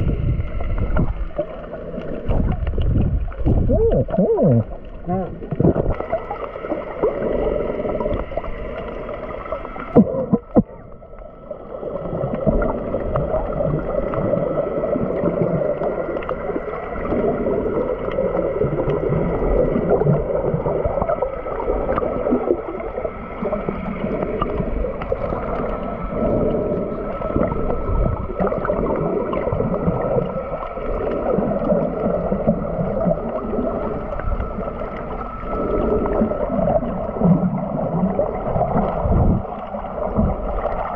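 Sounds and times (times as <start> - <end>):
underwater gurgling and rushing: 0.0 - 40.9.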